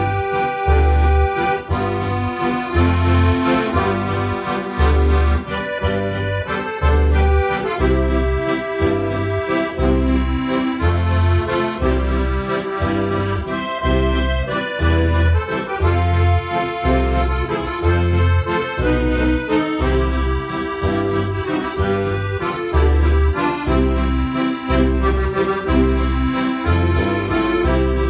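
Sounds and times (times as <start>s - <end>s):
accordion playing a folk tune: 0.0s - 28.0s.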